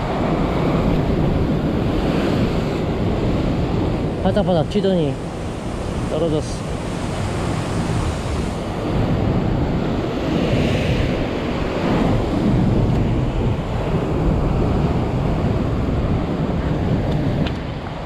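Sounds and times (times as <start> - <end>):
ocean surf breaking on rocks: 0.0 - 18.0
wind buffeting microphone: 0.0 - 18.0.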